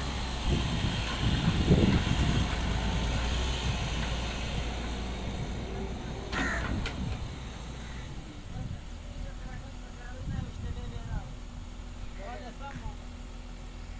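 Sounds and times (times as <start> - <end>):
excavator diesel engine humming: 0.0 - 13.9.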